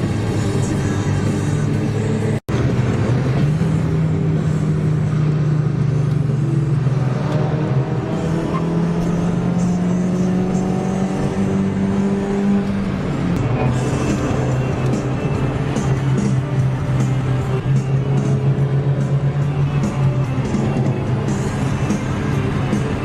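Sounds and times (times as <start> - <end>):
music playing: 0.0 - 3.6, 7.8 - 23.0
car engine running under load: 0.0 - 23.0.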